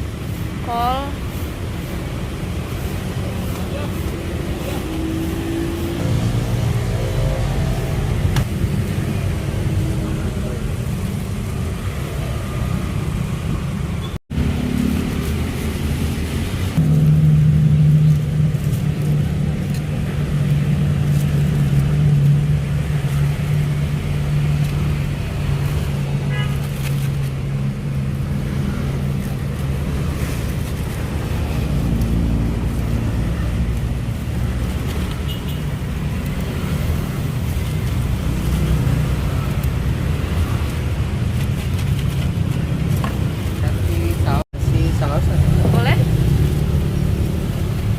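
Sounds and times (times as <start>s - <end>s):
rumble of passing vehicles: 0.0s - 47.9s
vehicle engine humming: 0.0s - 47.9s.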